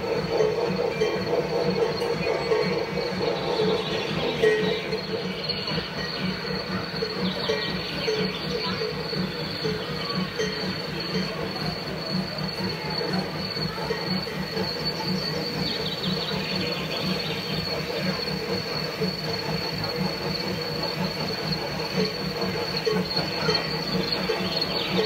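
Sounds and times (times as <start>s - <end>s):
model train whine: 0.0s - 25.0s.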